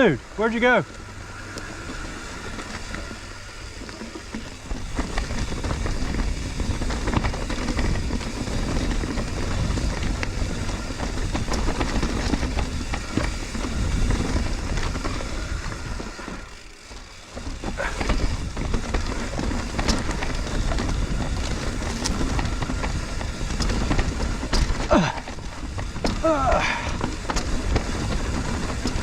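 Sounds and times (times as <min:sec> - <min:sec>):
bike rattling and knocking: 0:00.0 - 0:29.0
wind rumble on microphone: 0:00.0 - 0:29.0
tyres rolling over rock: 0:00.6 - 0:29.0.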